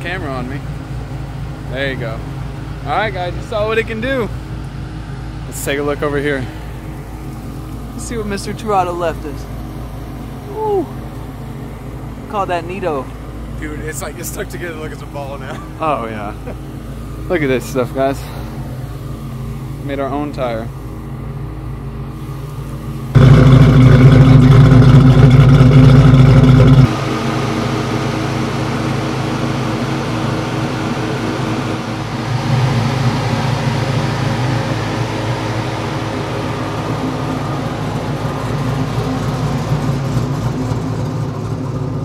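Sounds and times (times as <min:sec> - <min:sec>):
car engine running loud: 0:00.0 - 0:42.0
car engine running quietly: 0:00.0 - 0:42.0.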